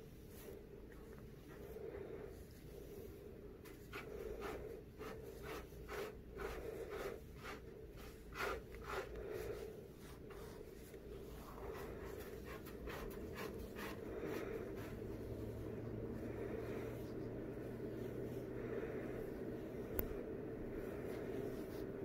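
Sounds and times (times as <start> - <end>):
hand patting cat fur: 0.0 - 22.0.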